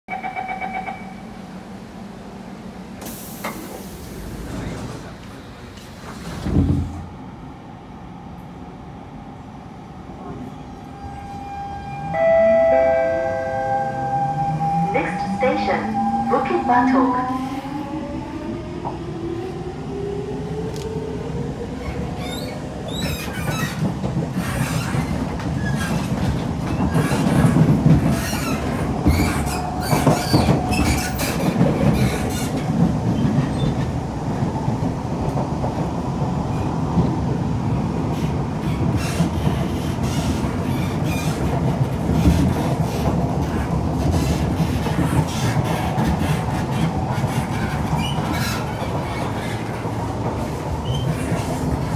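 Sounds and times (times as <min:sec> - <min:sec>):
train wheels rumbling: 0:10.1 - 0:51.9.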